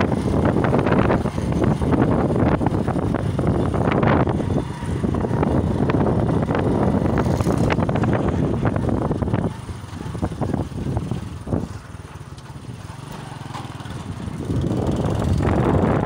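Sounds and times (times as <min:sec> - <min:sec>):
wind buffeting on microphone: 0:00.0 - 0:12.7, 0:13.6 - 0:16.0
motorcycle engine running: 0:00.0 - 0:16.0.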